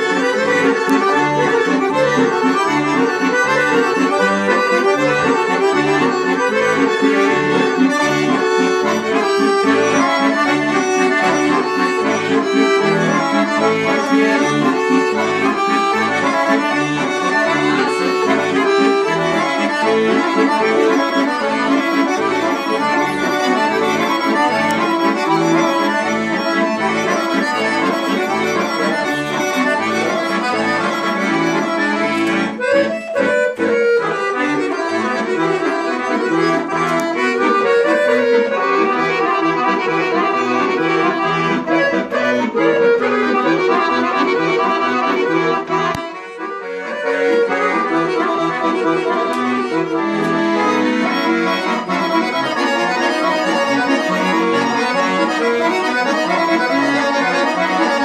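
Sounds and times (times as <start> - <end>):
button accordions playing: 0.0 - 58.0.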